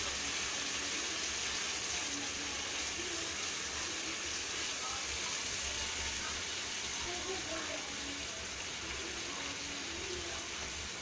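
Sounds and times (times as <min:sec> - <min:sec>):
onion paste sizzling in fat: 0:00.0 - 0:11.0.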